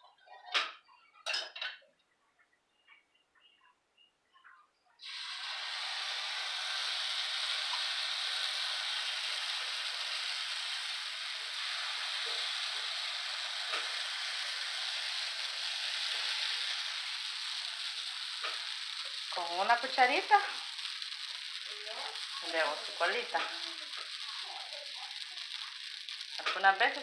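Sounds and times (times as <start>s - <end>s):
batter sizzling on a griddle: 5.0s - 27.0s.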